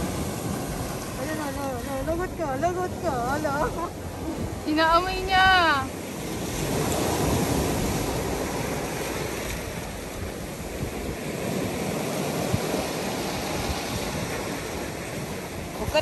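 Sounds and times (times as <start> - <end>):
waves breaking on pebbly shore: 0.0 - 16.0.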